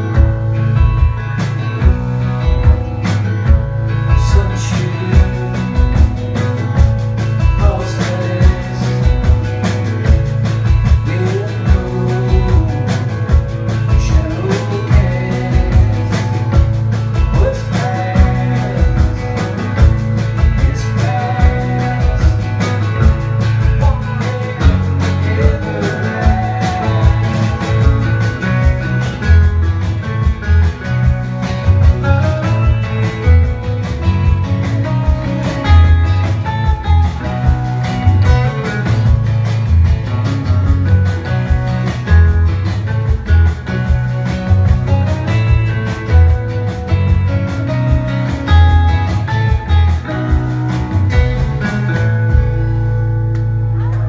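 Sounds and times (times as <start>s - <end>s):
acoustic guitar: 0.0s - 54.0s
bass guitar: 0.0s - 54.0s
drum kit beat: 0.0s - 54.0s
electric guitar: 0.0s - 54.0s.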